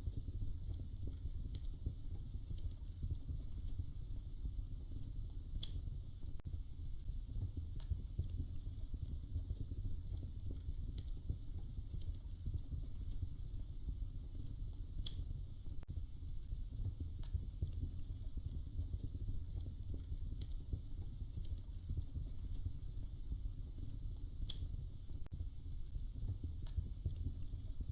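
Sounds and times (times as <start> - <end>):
fire popping and snapping: 0.0 - 27.9
fireplace fire rumble: 0.0 - 27.9.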